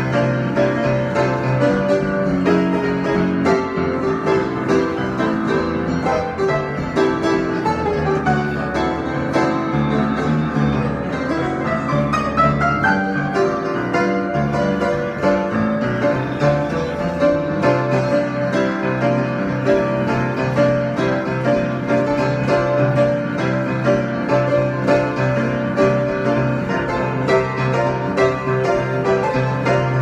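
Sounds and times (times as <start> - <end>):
improvised keyboard music: 0.0 - 30.0.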